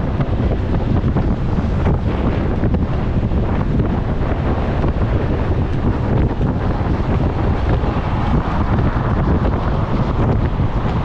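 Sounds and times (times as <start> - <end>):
vehicle and road rumble: 0.0 - 11.0
wind buffeting microphone: 0.0 - 11.0.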